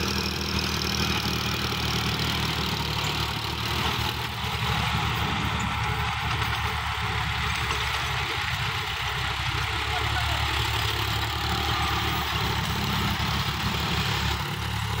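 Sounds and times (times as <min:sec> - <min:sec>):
tines churning soil: 0:00.0 - 0:15.0
tractor diesel engines running: 0:00.0 - 0:15.0.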